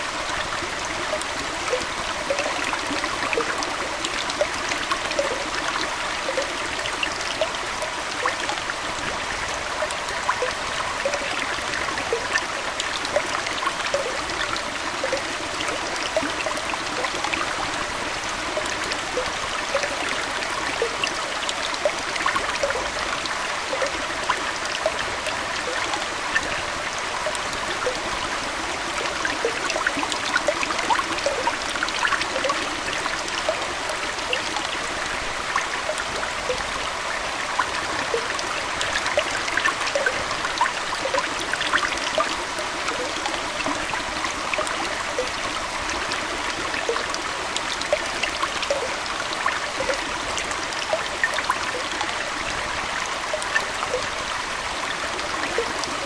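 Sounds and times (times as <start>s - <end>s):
small water splashes and pops: 0.0s - 52.6s, 53.2s - 56.0s
aquarium water trickling: 0.0s - 56.0s.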